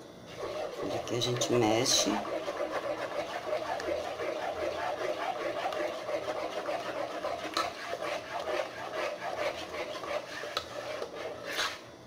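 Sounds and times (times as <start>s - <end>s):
spoon scraping a pot: 0.3s - 11.8s.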